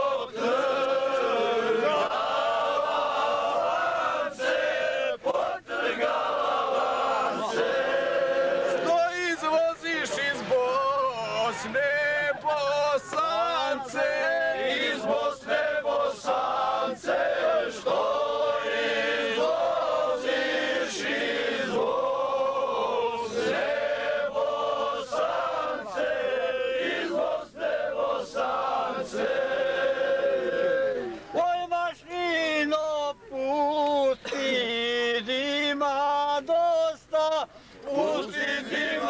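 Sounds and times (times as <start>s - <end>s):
men singing together: 0.0s - 31.5s, 33.5s - 39.0s.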